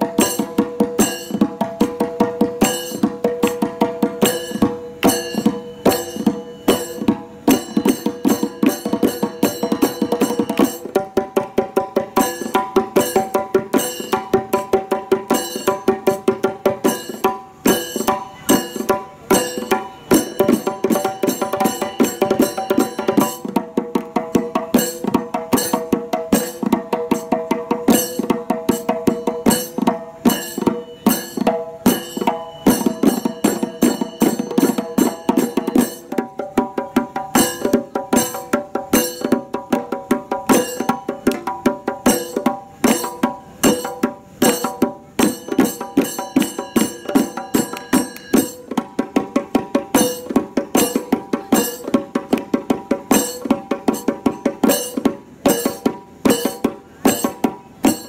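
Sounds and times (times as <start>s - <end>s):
hand drums playing fast rhythm: 0.0s - 58.0s.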